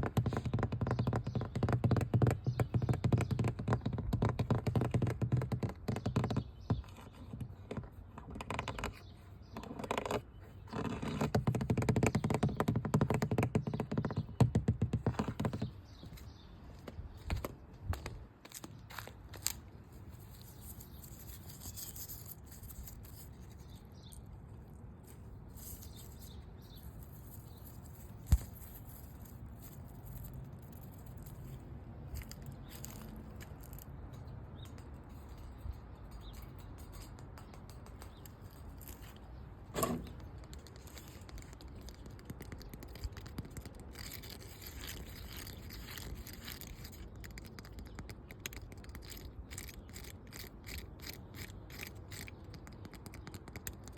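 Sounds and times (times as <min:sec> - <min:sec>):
scratching and rubbing on a surface: 0:00.0 - 0:15.7, 0:19.4 - 0:24.2, 0:25.0 - 0:33.9, 0:35.0 - 0:53.9.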